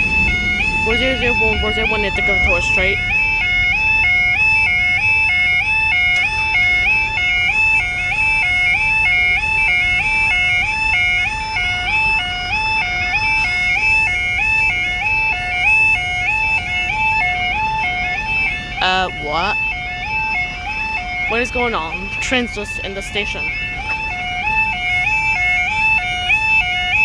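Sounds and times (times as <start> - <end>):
level crossing two-tone alarm: 0.0 - 27.0.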